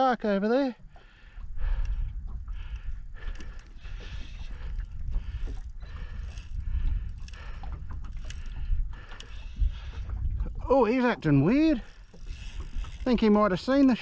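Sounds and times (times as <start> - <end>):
steady low rumble: 0.8 - 14.0
fishing reel whirring and clicking: 1.4 - 14.0.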